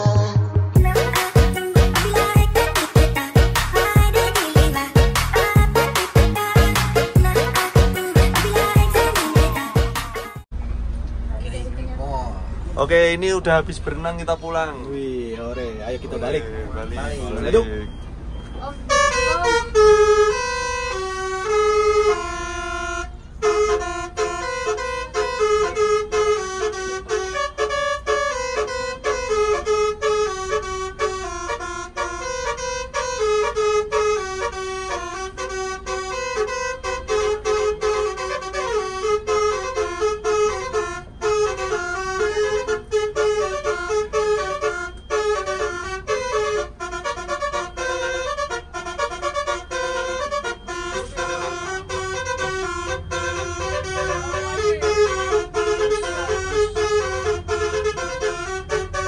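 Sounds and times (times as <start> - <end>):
bus air horn playing a tune: 0.0 - 10.5, 15.2 - 17.6, 18.6 - 59.0
bus engine rumble: 0.0 - 59.0.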